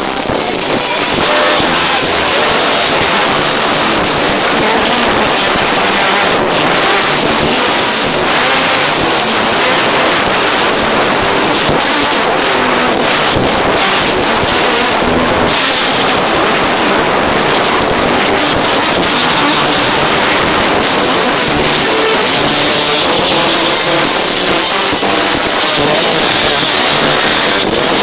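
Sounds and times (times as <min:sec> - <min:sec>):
distorted gospel band and singing: 0:00.0 - 0:28.0.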